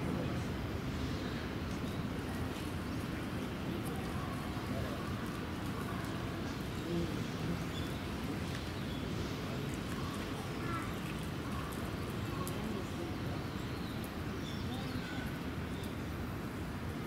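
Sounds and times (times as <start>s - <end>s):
distant voices: 0.0s - 17.0s.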